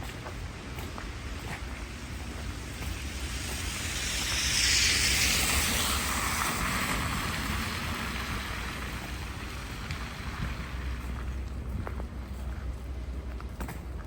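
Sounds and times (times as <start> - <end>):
low rumble: 0.0 - 14.0
tyres hissing through wet snow: 0.1 - 11.6.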